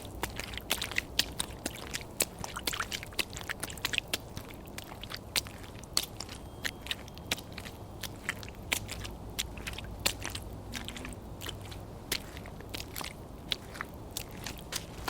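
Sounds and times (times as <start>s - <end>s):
faint low rumble: 0.0s - 15.0s
wet footsteps through liquid: 0.0s - 15.0s.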